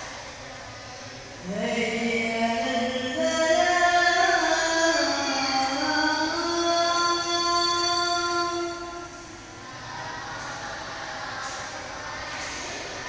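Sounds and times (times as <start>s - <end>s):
boy chanting call to prayer: 0.0s - 13.0s.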